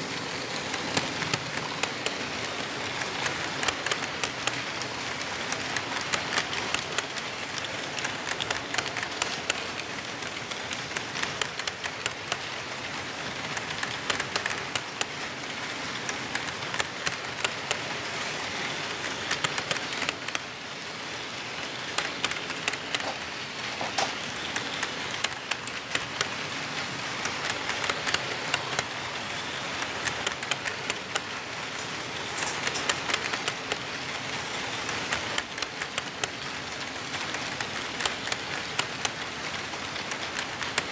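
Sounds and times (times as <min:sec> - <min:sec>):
model train rushing hiss: 0:00.0 - 0:40.9
model train wheels clicking on rails: 0:00.0 - 0:40.9.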